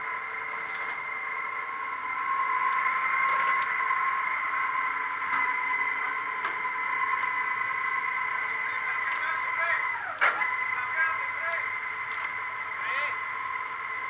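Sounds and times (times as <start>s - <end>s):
winch whining: 0.0s - 14.0s.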